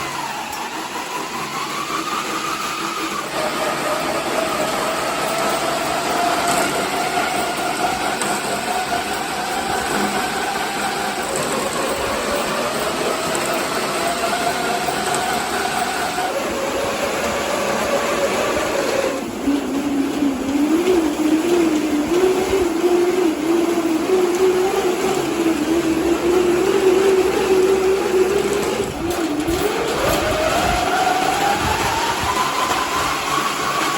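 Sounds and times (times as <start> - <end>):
treadmill belt whirring: 0.0 - 33.9.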